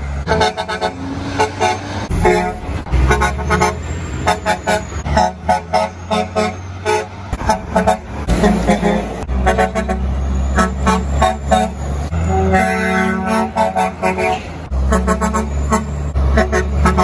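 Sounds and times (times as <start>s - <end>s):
horn tooting: 0.0s - 17.0s
passing traffic: 0.0s - 17.0s
truck diesel engine rumbling: 0.0s - 17.0s.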